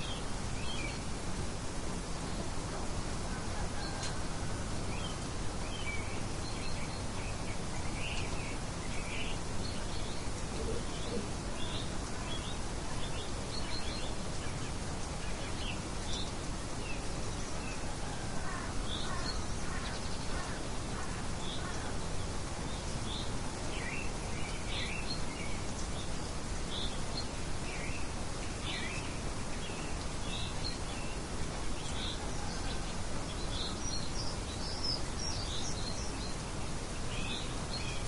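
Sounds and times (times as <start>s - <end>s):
steady wind-like hiss: 0.0s - 38.0s.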